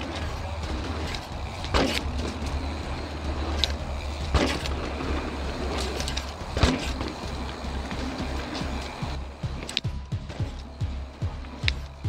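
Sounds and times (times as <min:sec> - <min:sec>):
bike knocking and clattering: 0:00.0 - 0:12.0
bike tyres rumbling on trail: 0:00.0 - 0:12.0
wind: 0:00.0 - 0:12.0.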